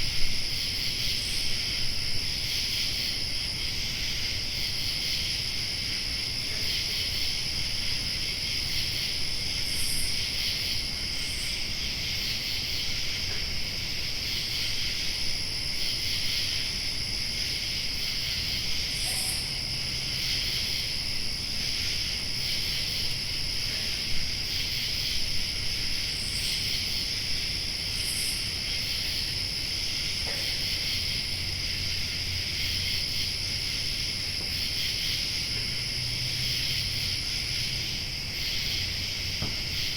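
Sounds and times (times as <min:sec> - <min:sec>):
crickets trilling: 0:00.0 - 0:39.9
high insect tone: 0:00.0 - 0:39.9.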